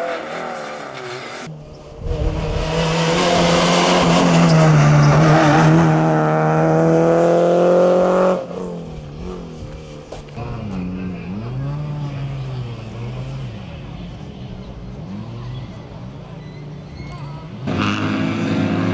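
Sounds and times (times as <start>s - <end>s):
rally car passing at speed: 0.0s - 18.9s.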